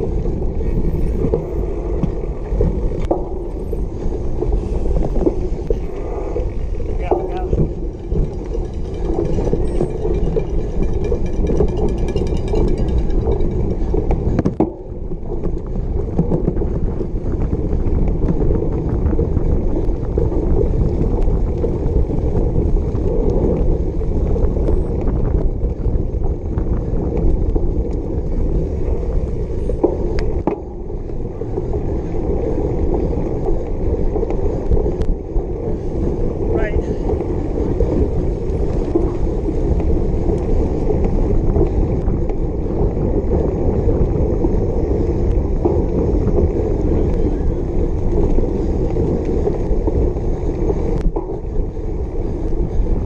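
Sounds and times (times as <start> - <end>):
bike knocks and rattles: 0.0 - 53.0
rumble of tyres and wind: 0.0 - 53.0.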